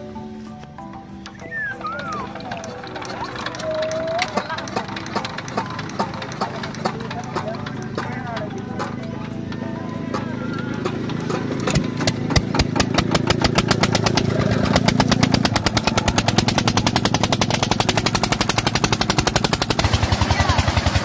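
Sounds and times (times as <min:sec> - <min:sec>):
diesel engine starting and chugging: 0:00.7 - 0:21.0.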